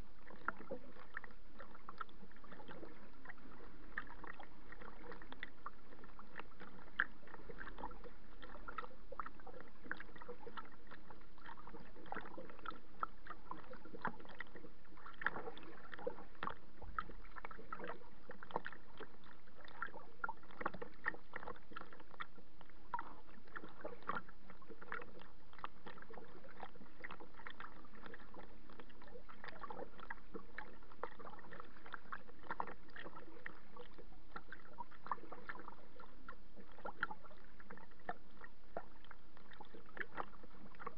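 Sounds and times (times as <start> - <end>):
waves lapping against a kayak: 0.0 - 40.9.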